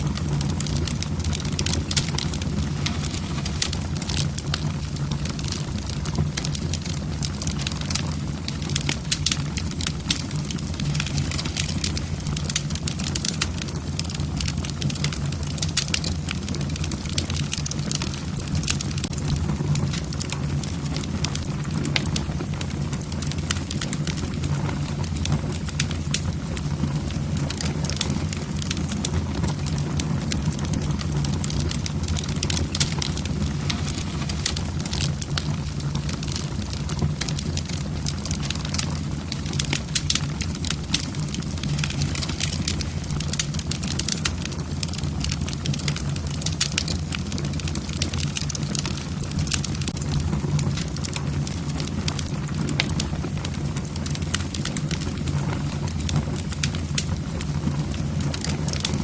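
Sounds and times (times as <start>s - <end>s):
logs crackling and popping: 0.0s - 59.0s
low rumble of flame: 0.0s - 59.0s.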